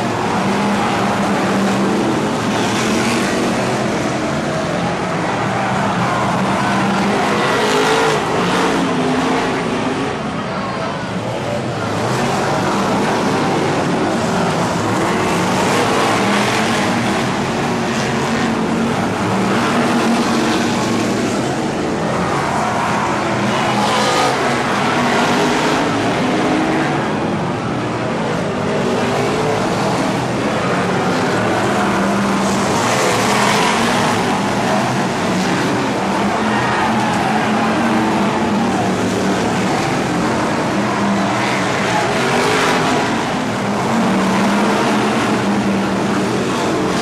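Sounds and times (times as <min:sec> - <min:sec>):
racing car engines: 0:00.0 - 0:47.0.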